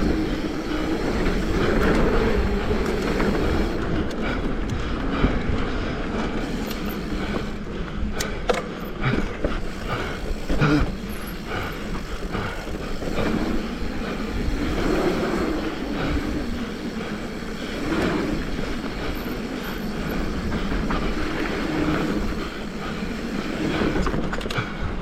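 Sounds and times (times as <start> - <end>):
bike rattling and knocking: 0.0 - 25.0
tyres rumbling on dirt trail: 0.0 - 25.0
wind buffeting microphone: 0.0 - 25.0.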